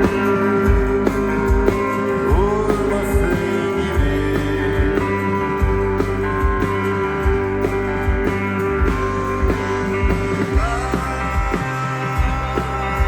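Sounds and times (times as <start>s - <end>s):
live instrumental band music: 0.0s - 13.0s.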